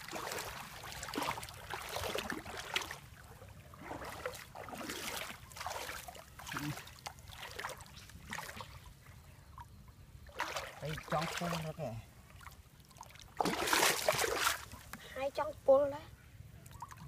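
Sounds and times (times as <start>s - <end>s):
shallow water splashing: 0.0s - 15.0s.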